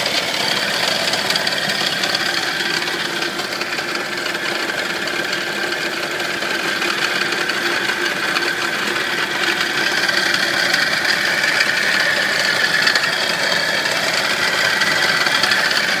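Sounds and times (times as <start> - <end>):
car engine with metallic rattle: 0.0 - 16.0.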